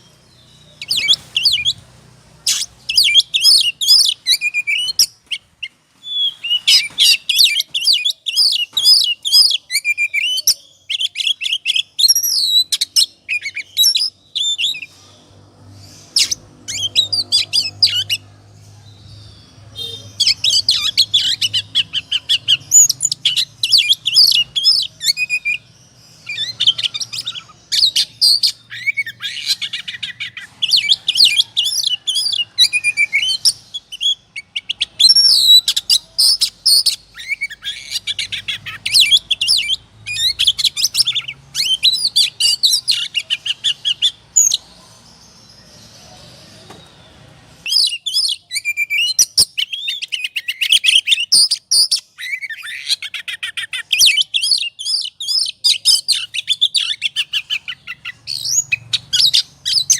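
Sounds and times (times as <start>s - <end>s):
songbird whistles and trills: 0.7s - 1.8s, 2.4s - 15.2s, 19.7s - 44.6s, 47.6s - 59.9s.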